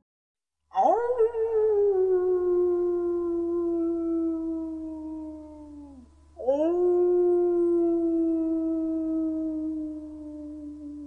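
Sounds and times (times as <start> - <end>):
wolf howling: 0.8 - 11.0.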